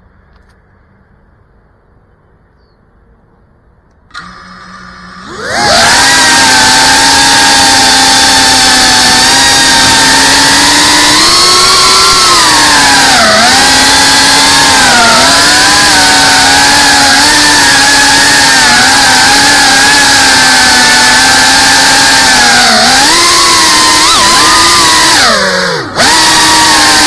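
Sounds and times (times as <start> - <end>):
drone motors whining: 4.1 - 27.0.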